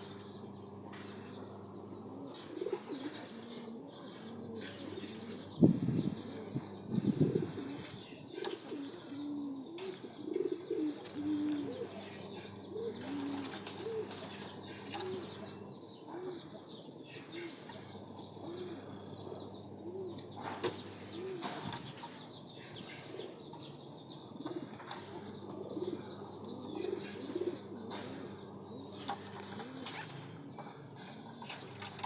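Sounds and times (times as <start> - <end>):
dove cooing: 0.0 - 32.0
small birds chirping: 0.0 - 32.0.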